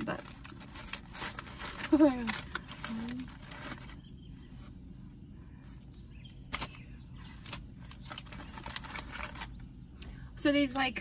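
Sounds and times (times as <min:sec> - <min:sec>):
paper wrapper rustling: 0:00.0 - 0:09.6
steady low hum: 0:00.0 - 0:11.0.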